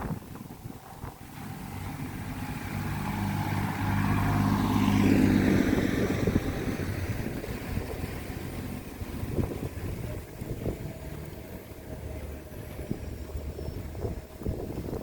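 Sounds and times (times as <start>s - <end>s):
vehicle engine driving past: 1.1s - 15.0s.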